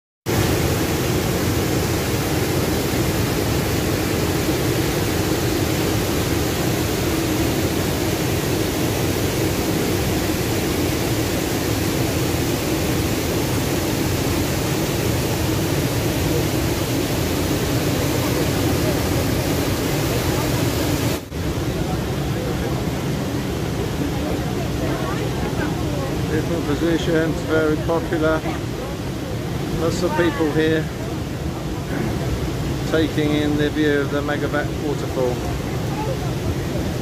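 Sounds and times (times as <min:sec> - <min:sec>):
waterfall rushing: 0:00.3 - 0:37.0.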